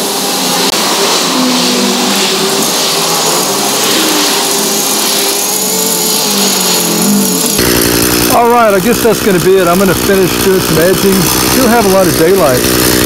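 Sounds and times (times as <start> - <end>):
road traffic passing: 0.0 - 13.0
string trimmer running: 0.0 - 13.0.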